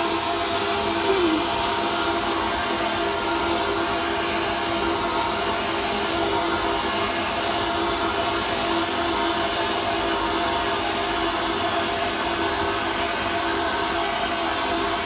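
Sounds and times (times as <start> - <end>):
pump humming: 0.0 - 15.0.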